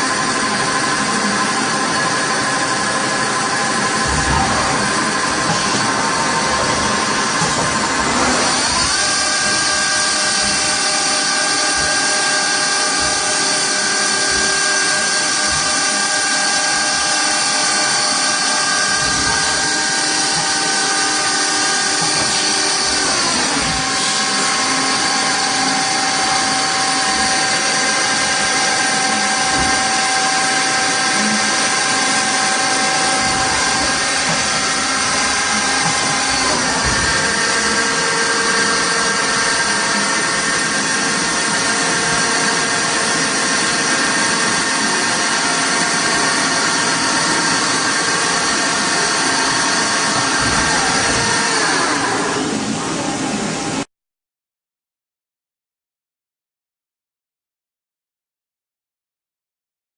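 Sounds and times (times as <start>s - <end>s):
lathe machine whine: 0.0s - 53.9s.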